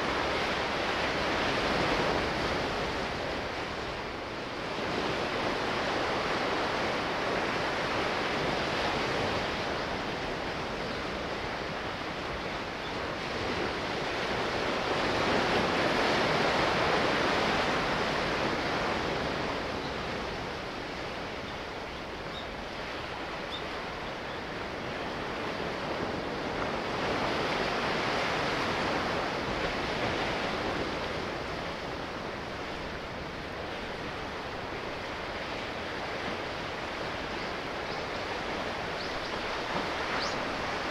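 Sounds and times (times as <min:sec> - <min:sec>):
sea waves washing: 0:00.0 - 0:40.9.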